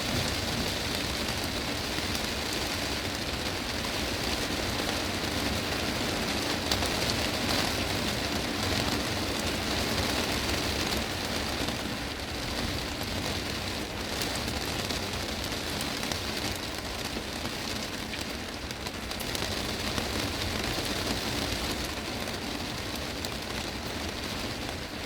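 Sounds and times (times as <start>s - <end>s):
heavy rain on glass roof: 0.0s - 25.0s.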